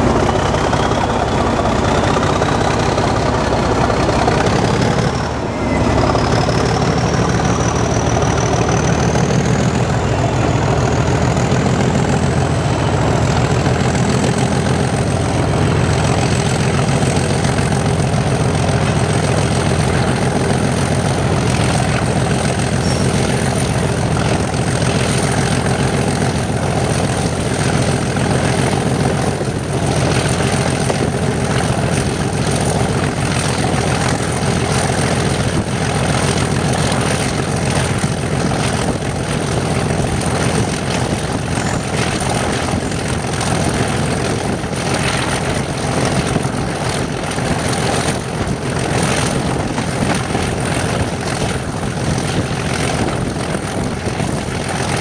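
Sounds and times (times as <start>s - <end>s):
high whine: 0.0s - 55.0s
locomotive engine drone: 0.0s - 55.0s.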